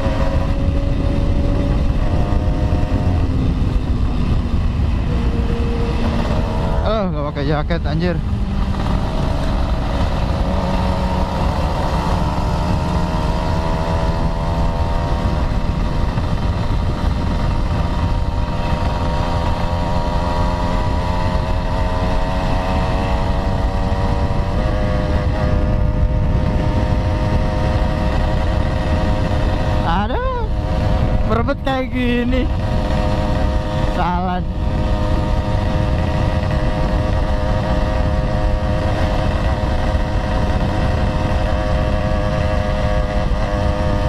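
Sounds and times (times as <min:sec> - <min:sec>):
motorcycle engine running: 0:00.0 - 0:44.0
wind rumble on microphone: 0:00.0 - 0:44.0.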